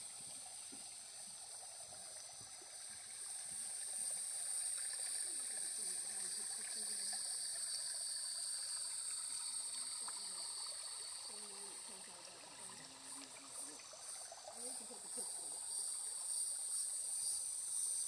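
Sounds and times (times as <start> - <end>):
creek trickling over stones: 0.0 - 18.0.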